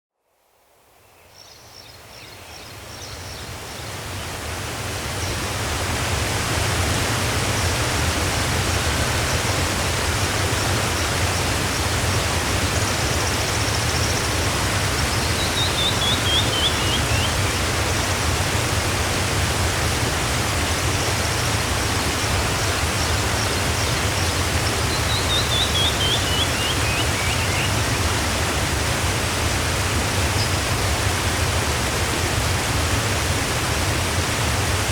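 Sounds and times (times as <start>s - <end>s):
waterfall rushing: 3.6s - 34.9s.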